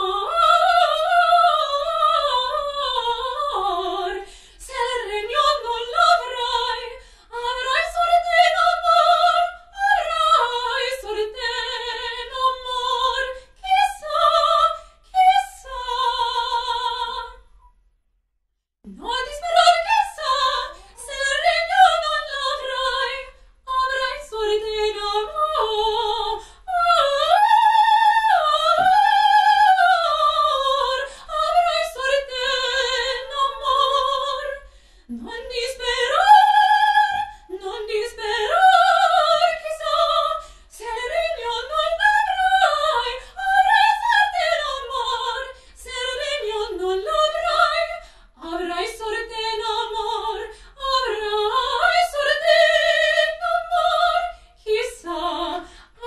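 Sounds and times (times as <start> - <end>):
woman singing opera: 0.0 - 17.4, 18.9 - 56.0.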